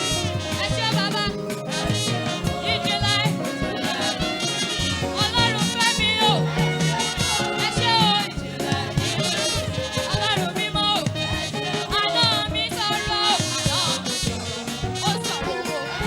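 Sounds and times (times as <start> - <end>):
lively church praise music: 0.0 - 16.0
steady drum beat: 0.0 - 16.0.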